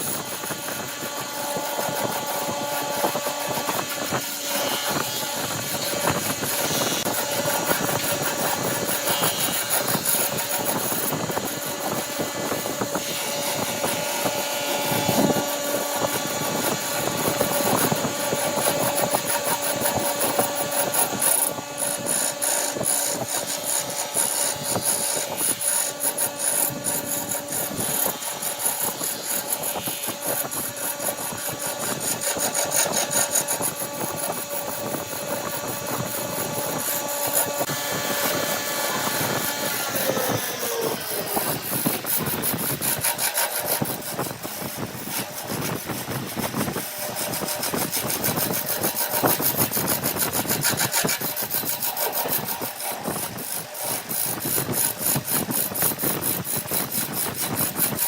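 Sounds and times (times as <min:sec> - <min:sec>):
cutter scraping wood: 0:00.0 - 0:58.0
woodworking machine motor whine: 0:00.0 - 0:58.0.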